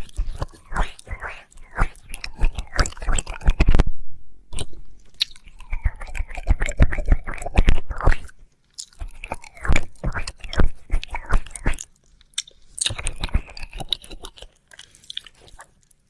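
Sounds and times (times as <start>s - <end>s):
wet mouth licking sounds: 0.0s - 3.8s, 4.5s - 15.8s.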